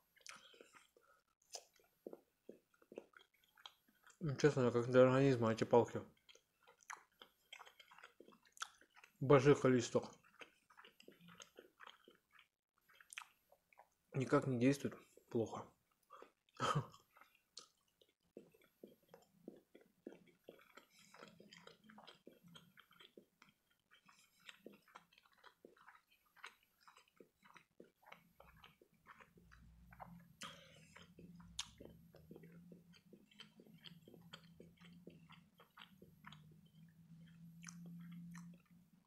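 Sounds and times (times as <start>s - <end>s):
close chewing mouth clicks: 0.1s - 5.0s, 6.0s - 39.0s.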